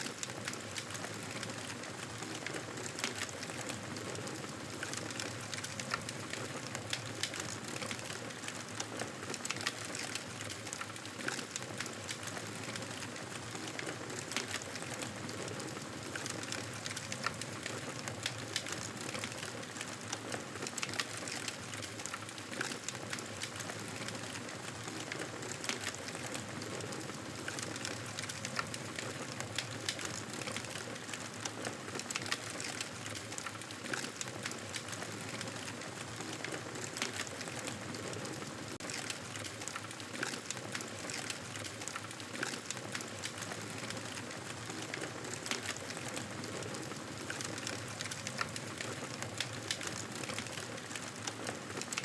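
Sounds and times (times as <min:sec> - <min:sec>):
campfire crackling: 0:09.3 - 0:52.0.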